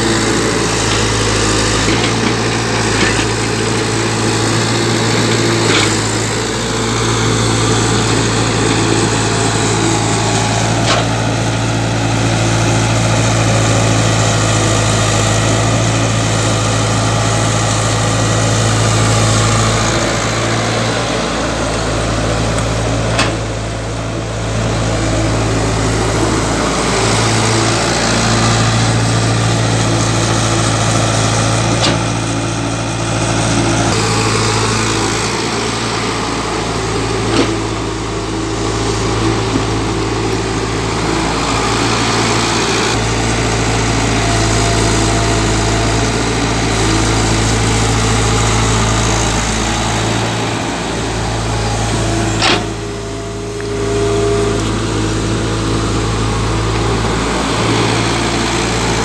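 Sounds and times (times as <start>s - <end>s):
excavator diesel engine humming: 0.0s - 59.0s.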